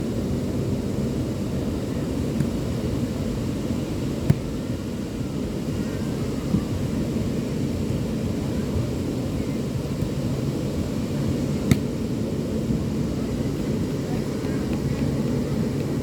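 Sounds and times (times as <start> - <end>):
sea rumbling on a beach: 0.0 - 16.0.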